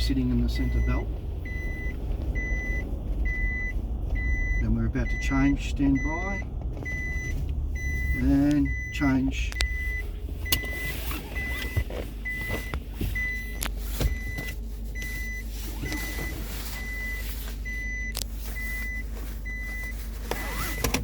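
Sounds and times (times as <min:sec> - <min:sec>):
car cab rumble: 0:00.0 - 0:21.0
seat belt warning beeps: 0:00.0 - 0:21.0.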